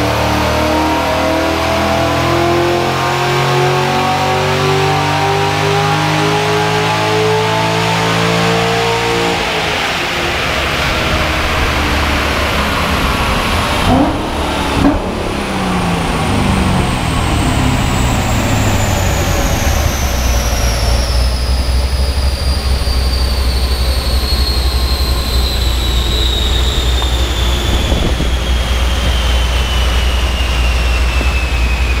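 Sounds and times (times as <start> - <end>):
car engine revs falling: 0.0 - 32.0
dyno rollers whine: 0.0 - 32.0
low steady drone: 0.0 - 32.0.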